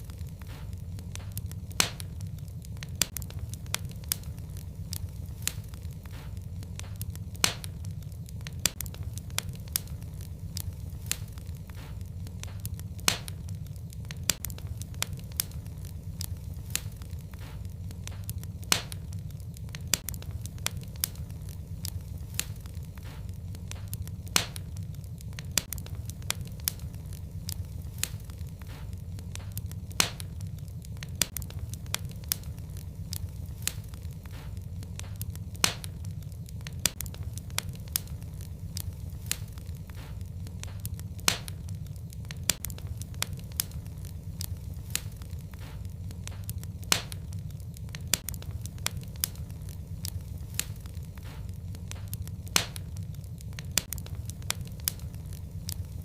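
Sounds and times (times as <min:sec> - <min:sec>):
fire pops and crackles: 0:00.0 - 0:56.0
flames rumbling: 0:00.0 - 0:56.0.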